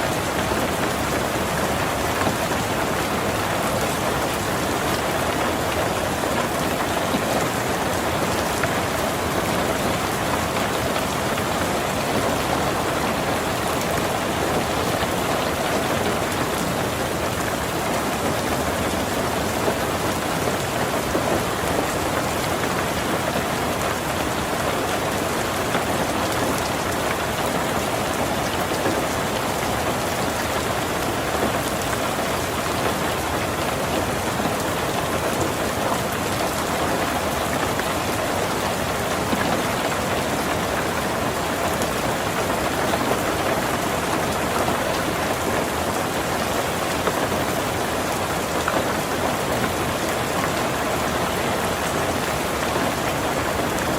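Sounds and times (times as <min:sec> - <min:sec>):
heavy rain on a tin roof: 0:00.0 - 0:53.9.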